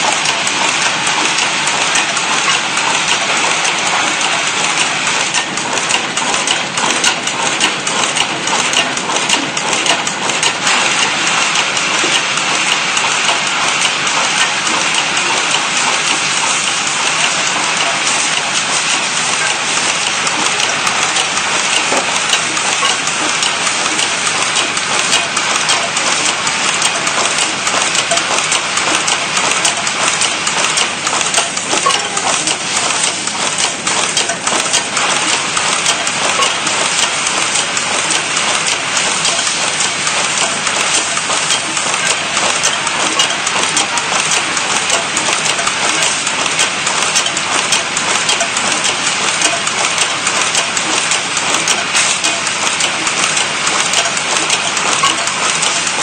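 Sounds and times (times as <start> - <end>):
machine rattling with metallic clicks: 0.0 - 56.0.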